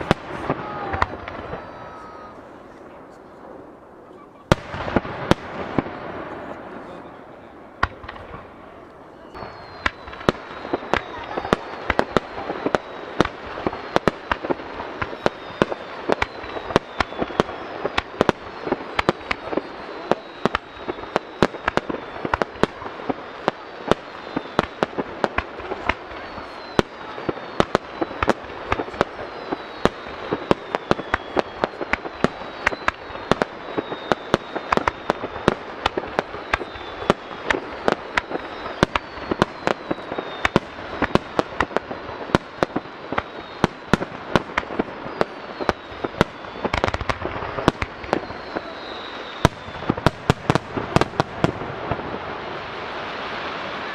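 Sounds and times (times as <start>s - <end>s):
falling fireworks whistles: 0.0s - 53.9s
fireworks bangs: 0.0s - 53.9s
fireworks crackle: 0.0s - 53.9s.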